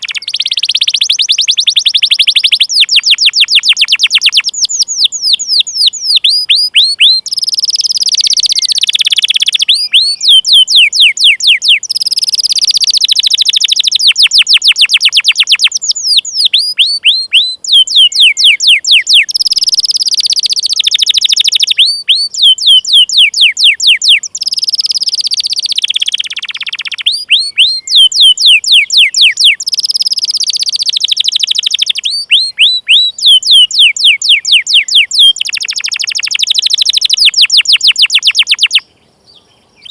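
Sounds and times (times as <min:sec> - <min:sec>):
canary chirping and trilling: 0:00.0 - 0:38.8.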